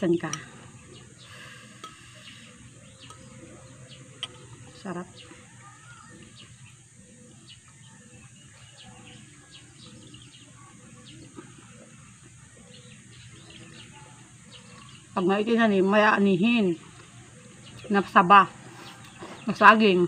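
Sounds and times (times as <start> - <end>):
small birds chirping: 0.0 - 20.0
steady high hiss: 0.0 - 20.0.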